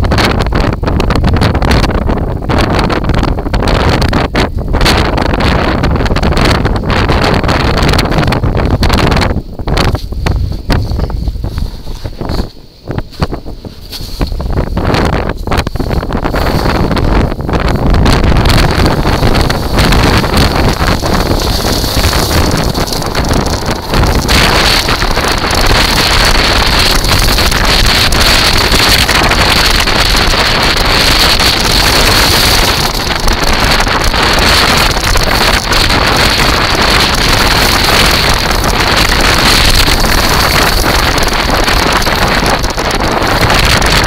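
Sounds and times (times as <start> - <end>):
wind buffeting microphone: 0.0 - 44.0
tyres rolling across shingle: 7.2 - 44.0.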